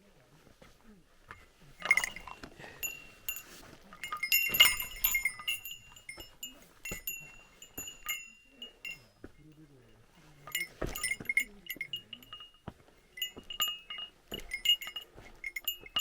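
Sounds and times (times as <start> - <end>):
small metal bell jingling: 1.3 - 16.0.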